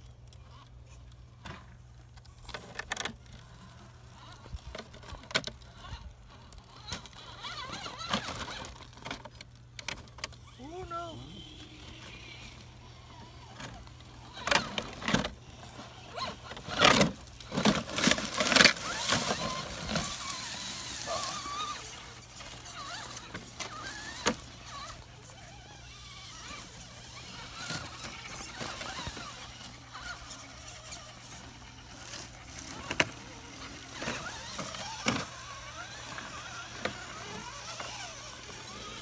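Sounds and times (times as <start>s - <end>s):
rc crawler clattering over rocks: 0.0s - 39.0s.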